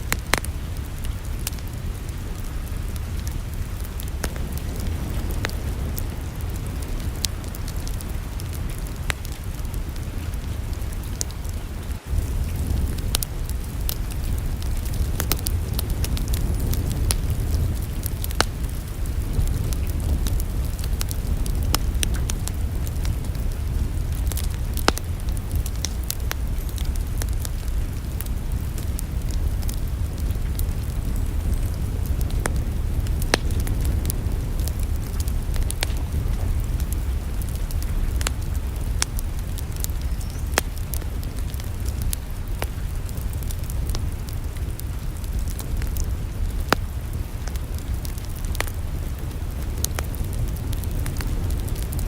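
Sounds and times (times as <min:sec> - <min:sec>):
low rumble: 0:00.0 - 0:52.0
wood fire crackling: 0:00.0 - 0:52.0.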